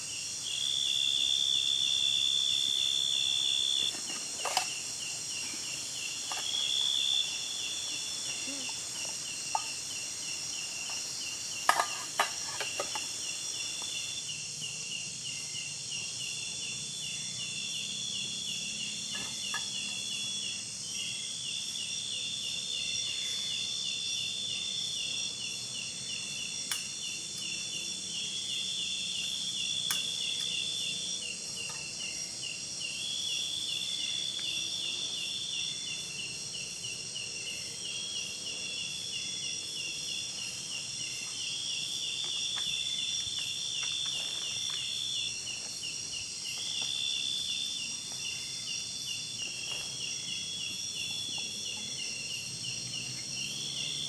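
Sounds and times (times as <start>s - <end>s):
insect chorus buzzing and trilling: 0.0s - 54.0s.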